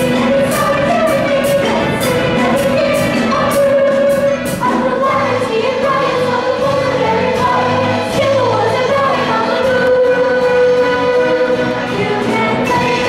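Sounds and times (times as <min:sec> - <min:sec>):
instrumental backing: 0:00.0 - 0:13.0.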